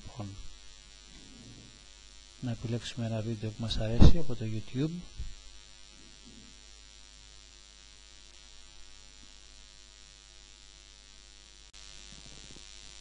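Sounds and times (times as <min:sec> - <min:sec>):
electrical mains hum with hiss: 0:00.0 - 0:13.0.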